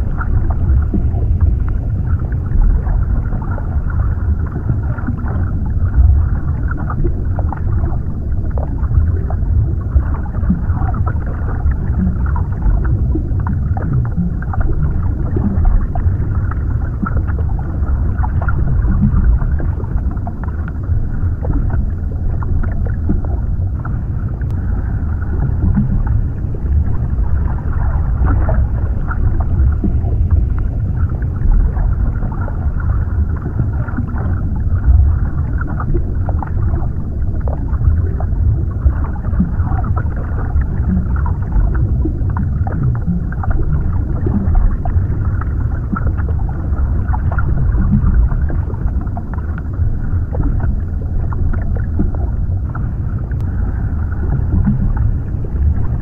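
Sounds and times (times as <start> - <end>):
muffled underwater rush: 0.0 - 56.0.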